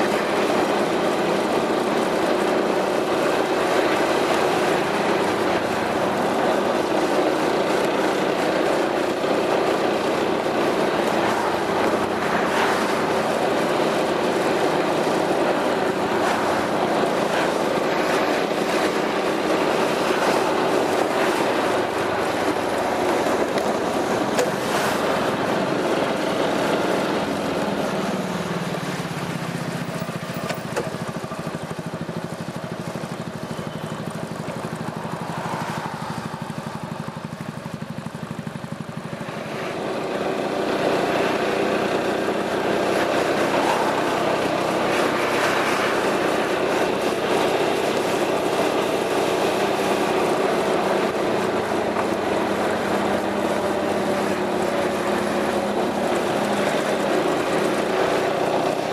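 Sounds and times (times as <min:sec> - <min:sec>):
scooter engine running: 0:00.0 - 0:58.9.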